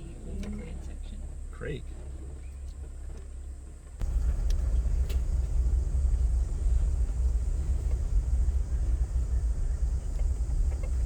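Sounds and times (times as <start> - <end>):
vehicle interior low rumble: 0.0 - 11.0.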